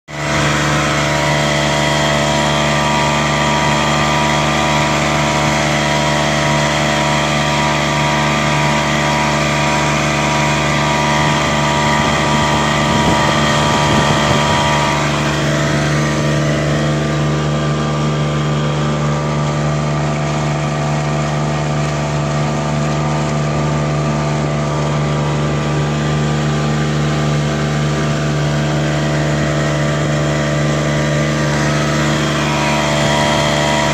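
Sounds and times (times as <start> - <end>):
boat wake wash: 0.1 - 33.9
outboard motor running: 0.1 - 33.9.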